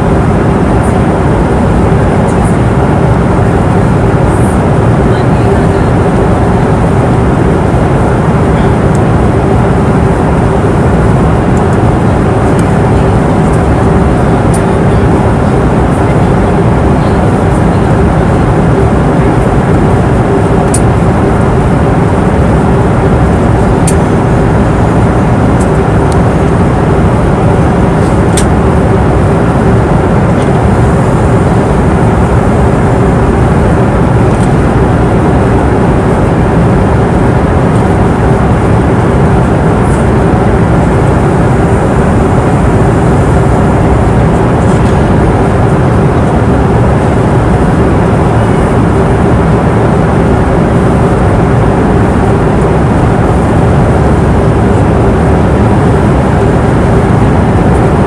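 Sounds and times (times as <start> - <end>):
airplane engine rumble: 0.0 - 58.0
constant low hum tone: 0.0 - 58.0.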